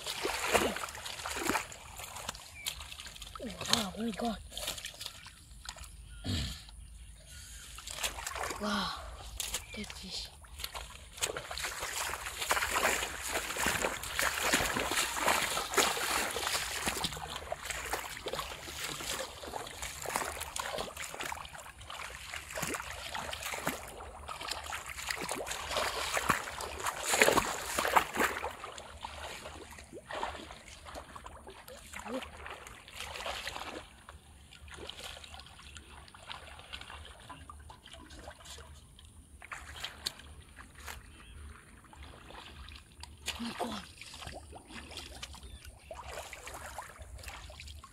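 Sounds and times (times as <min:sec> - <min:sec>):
water splashing and sloshing: 0:00.0 - 0:47.9.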